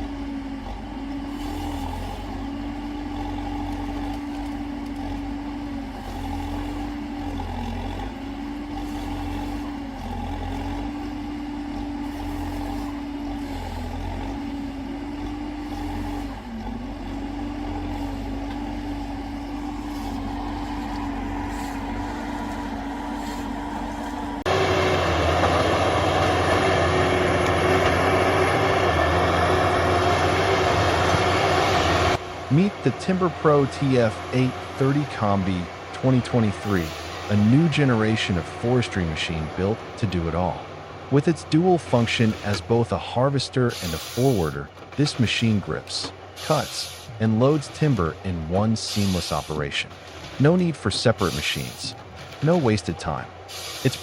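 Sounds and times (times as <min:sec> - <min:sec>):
diesel engine running: 0:00.0 - 0:54.0
rough machine engine: 0:00.0 - 0:54.0.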